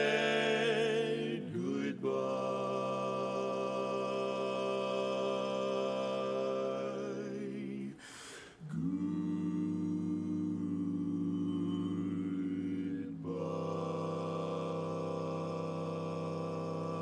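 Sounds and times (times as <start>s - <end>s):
male quartet singing in harmony: 0.0s - 17.0s.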